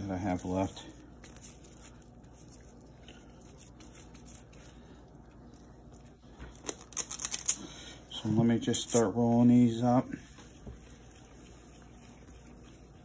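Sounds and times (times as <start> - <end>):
soft squishing of raw meat: 0.0 - 13.0.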